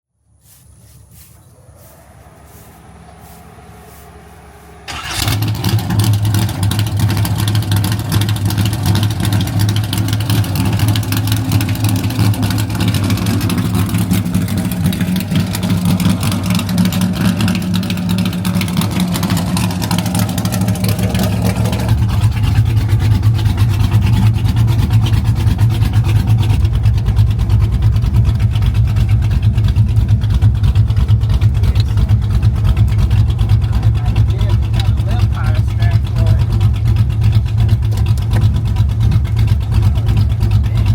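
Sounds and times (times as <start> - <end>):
car engine starting and running: 0.4 - 40.9.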